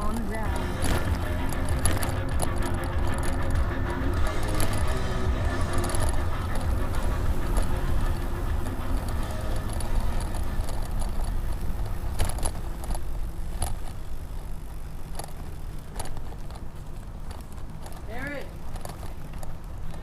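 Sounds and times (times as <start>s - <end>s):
sharp clicks and rattles: 0.0s - 20.0s
wind and tyres on road rumble: 0.0s - 20.0s.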